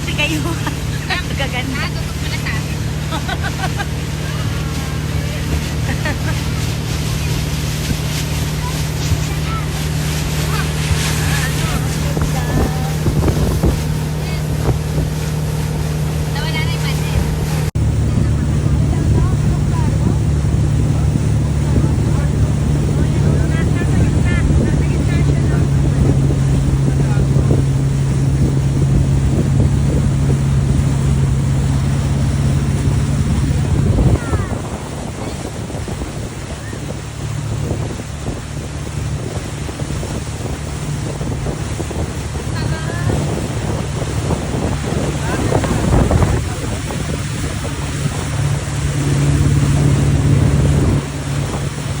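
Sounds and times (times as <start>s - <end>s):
speedboat engine running: 0.0s - 52.0s
water: 0.0s - 52.0s
wind noise on microphone: 0.0s - 52.0s.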